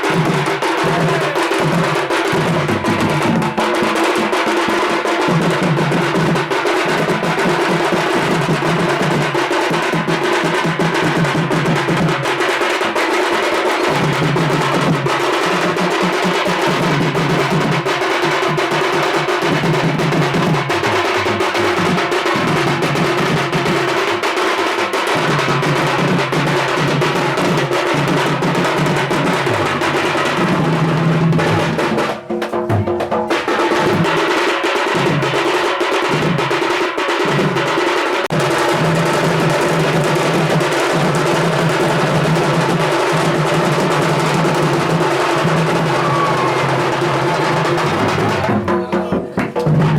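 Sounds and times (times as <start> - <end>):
fast drumming: 0.0 - 49.9.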